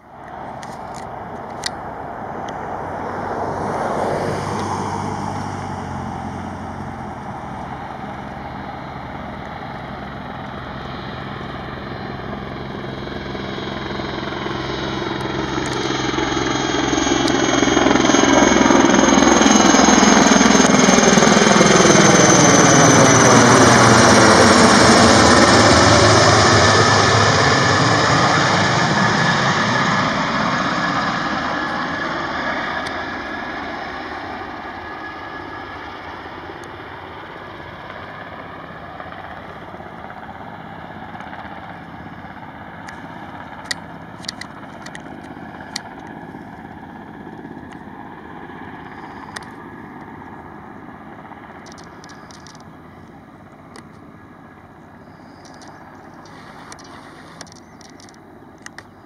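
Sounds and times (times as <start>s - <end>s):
helicopter rotor beat: 0.0s - 59.0s
helicopter turbine whine: 0.0s - 59.0s.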